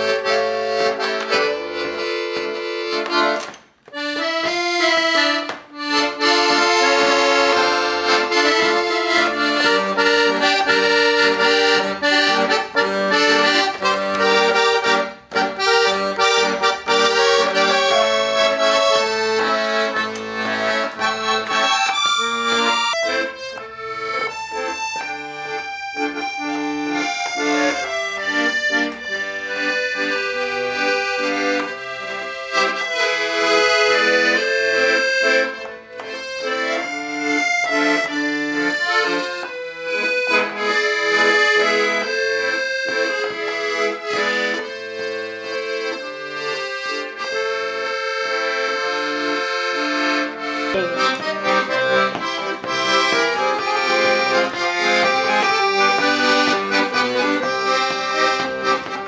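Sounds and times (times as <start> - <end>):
accordion playing a tune: 0.0 - 59.0.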